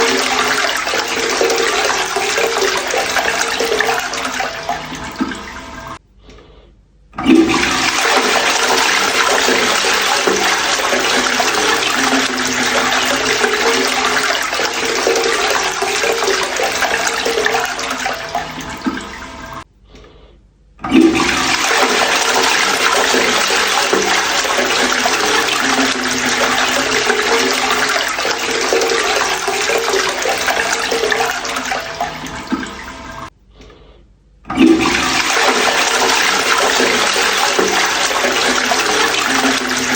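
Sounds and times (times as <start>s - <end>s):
toilet flushing: 0.0s - 6.0s, 7.2s - 19.6s, 20.8s - 33.4s, 34.4s - 39.9s.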